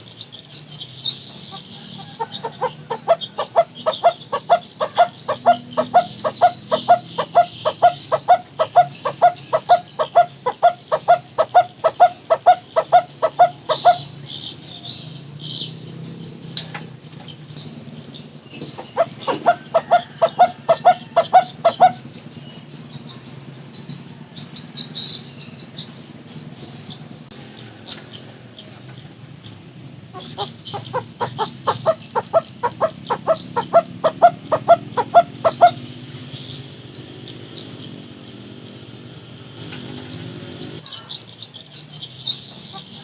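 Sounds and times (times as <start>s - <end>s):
bird calling hollow notes: 0.0s - 38.9s
insects buzzing: 0.0s - 43.0s.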